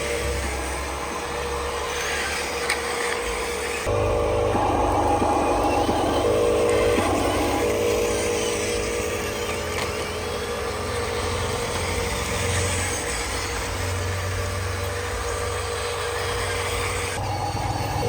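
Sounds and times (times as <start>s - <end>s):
low hum: 0.0s - 14.8s
electric motor whine: 0.0s - 18.0s.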